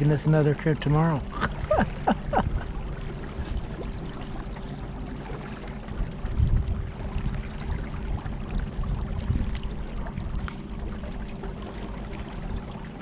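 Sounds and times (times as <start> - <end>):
low uneven rumble: 0.0 - 13.0
water sounds from moving boat: 0.0 - 13.0.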